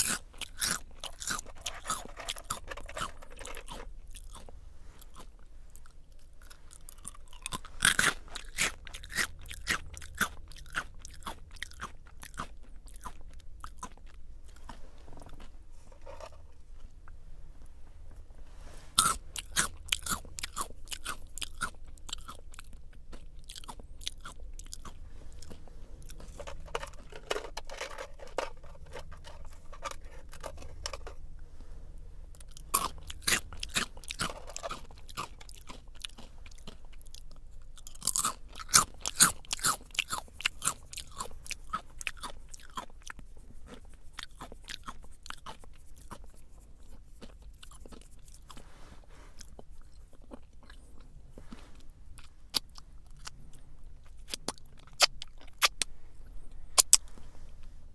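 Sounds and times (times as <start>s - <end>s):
crunchy snack chewing: 0.0s - 17.1s, 18.9s - 31.2s, 32.3s - 55.9s, 56.8s - 57.3s.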